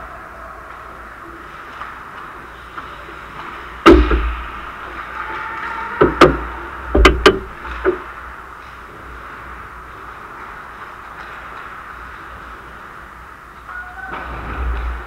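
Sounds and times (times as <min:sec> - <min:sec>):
rink hum: 0:00.0 - 0:15.0.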